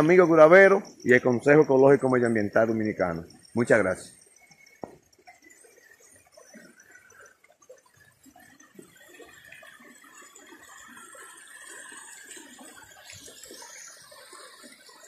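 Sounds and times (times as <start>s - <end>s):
water gurgling: 0.0s - 15.0s.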